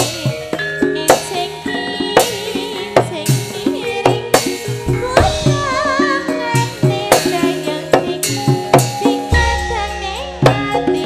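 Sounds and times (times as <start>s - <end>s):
woman singing with vibrato: 0.0s - 11.0s
hand drum strokes: 2.1s - 11.0s.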